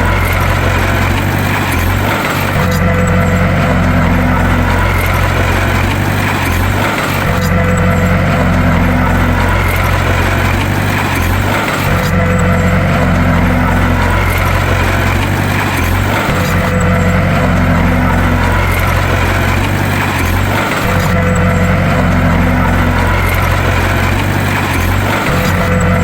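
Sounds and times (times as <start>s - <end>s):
bulldozer diesel engine drone: 0.0s - 26.0s.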